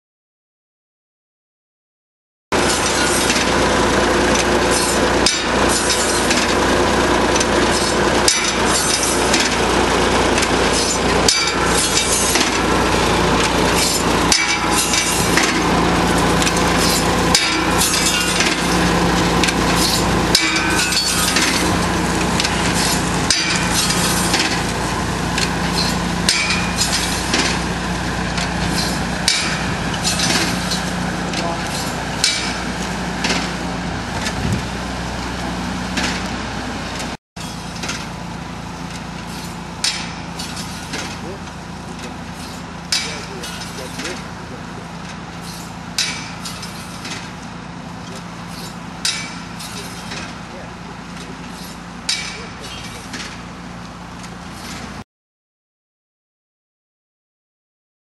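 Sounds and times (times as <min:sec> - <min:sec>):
tractor engine running: 0:02.5 - 0:55.0
implement clattering and knocking: 0:02.6 - 0:55.0.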